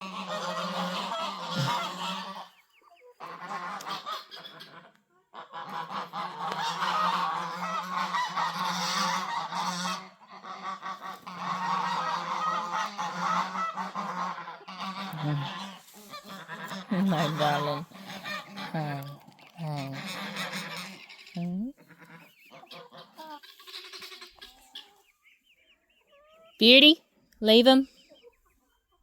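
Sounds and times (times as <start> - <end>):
geese honking: 0.0 - 2.6, 3.2 - 25.0.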